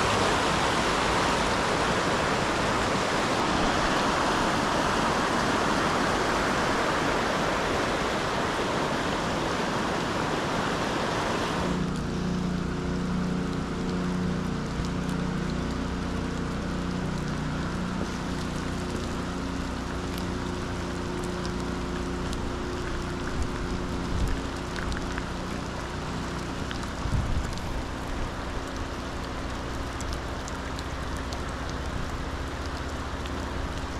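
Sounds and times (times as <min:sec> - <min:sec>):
rain falling on wet path: 0:00.0 - 0:33.9
rushing floodwater: 0:00.0 - 0:33.9.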